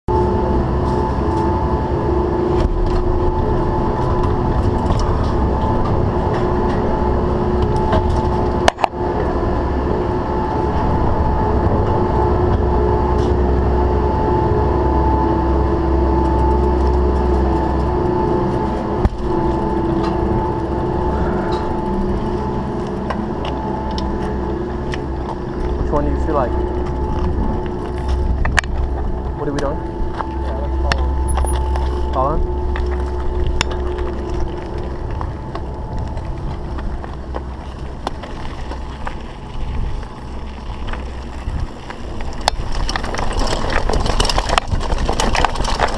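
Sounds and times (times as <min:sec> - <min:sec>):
two-note hum: 0:00.1 - 0:40.4
mechanical rumble: 0:00.1 - 0:45.9.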